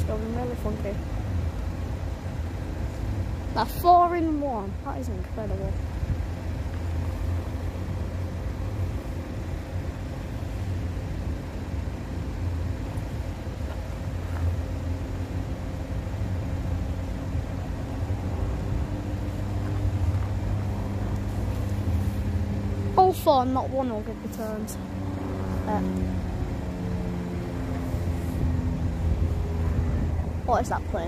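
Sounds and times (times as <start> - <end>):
diesel train rumbling: 0.0 - 31.0.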